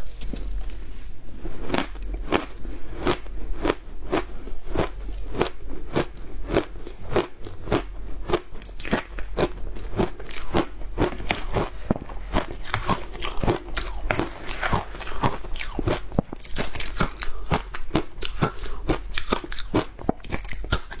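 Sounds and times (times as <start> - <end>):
ice being chewed: 0.1 - 21.0.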